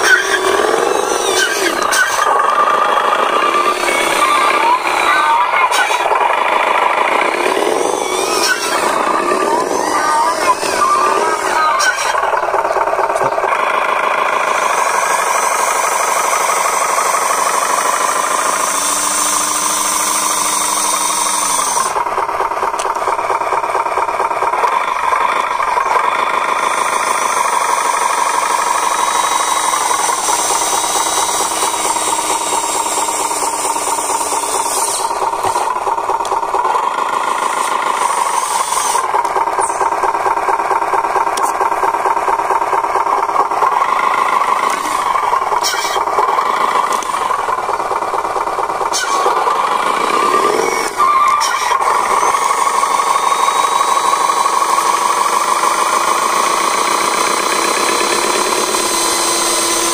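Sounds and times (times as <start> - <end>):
model truck motor drone: 0.0 - 59.9.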